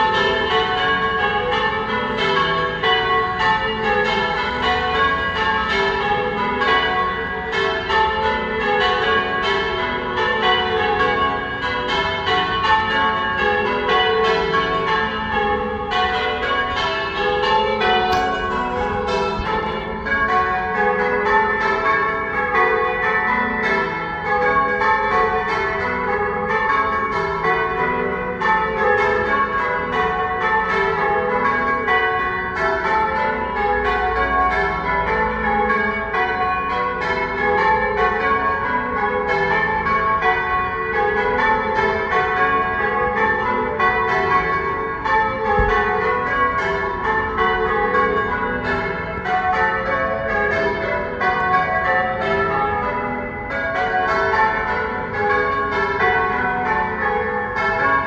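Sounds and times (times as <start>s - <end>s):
church bells change ringing: 0.0s - 58.0s.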